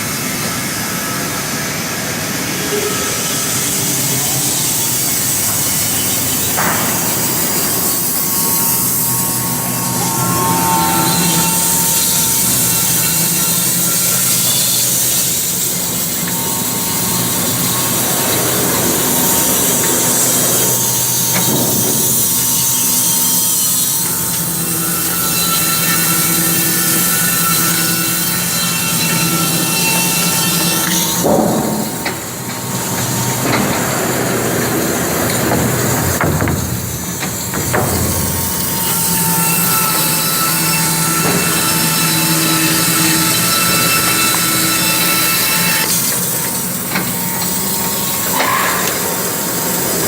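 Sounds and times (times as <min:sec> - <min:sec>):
sawmill engine humming: 0:00.0 - 0:50.0.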